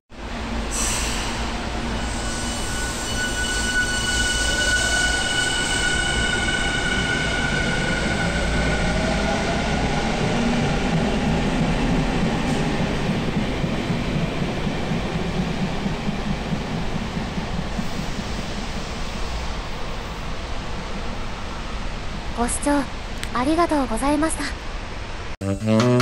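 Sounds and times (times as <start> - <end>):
train high whine: 0.2 - 23.1
wheels rumbling on rail: 0.2 - 23.3.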